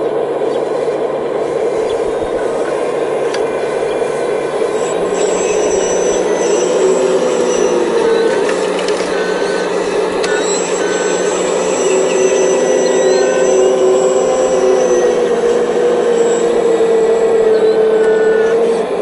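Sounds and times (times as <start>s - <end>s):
excavator pump whining: 0.0s - 19.0s
thin high whines: 0.0s - 19.0s.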